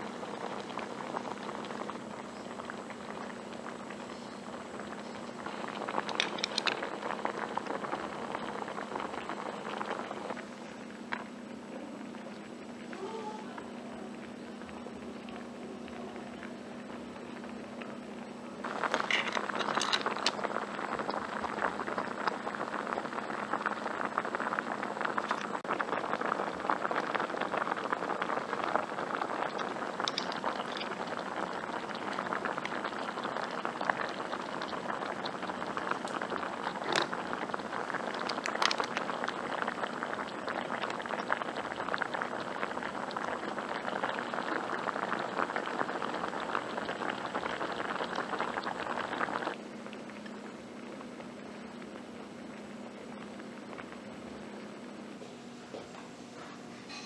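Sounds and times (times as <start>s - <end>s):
hotpot bubbling: 0.0s - 57.0s.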